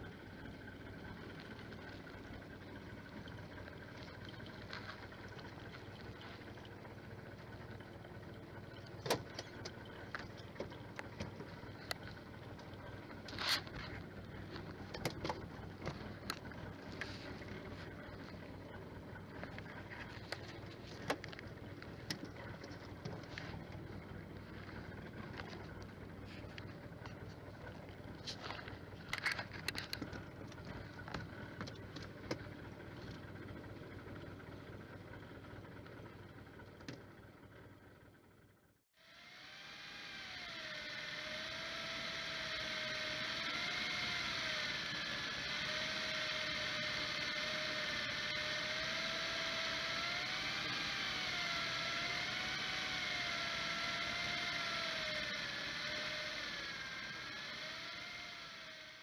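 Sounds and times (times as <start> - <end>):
boat engine idling: 0.0 - 59.0
electric reel motor whine: 0.0 - 59.0.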